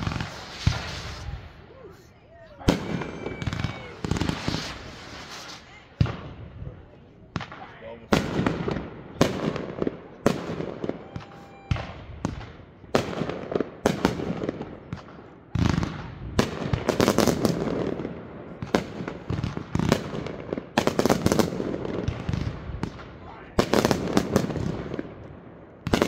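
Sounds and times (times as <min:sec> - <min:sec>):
fireworks bangs: 0:00.0 - 0:26.0
low fireworks rumble: 0:00.0 - 0:26.0.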